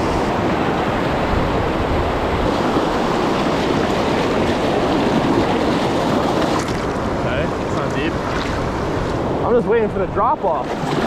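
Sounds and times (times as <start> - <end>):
water churning around legs: 0.0 - 9.4, 10.5 - 11.0
whitewater rushing over rocks: 0.0 - 11.0.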